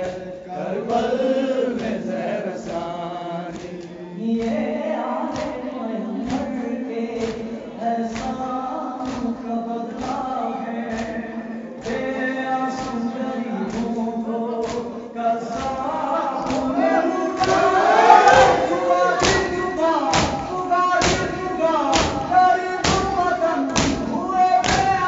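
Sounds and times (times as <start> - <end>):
men chanting a lament: 0.0 - 25.0
rhythmic chest slaps: 0.0 - 25.0.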